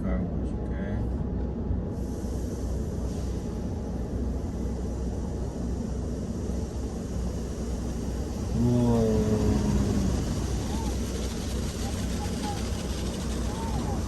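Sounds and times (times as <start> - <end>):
faint hiss: 2.0 - 14.0.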